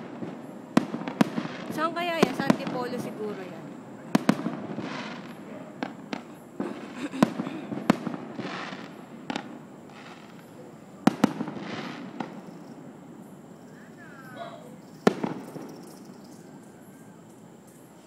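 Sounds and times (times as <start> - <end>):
fireworks bangs: 0.0 - 16.8
fireworks crackling: 0.0 - 18.0.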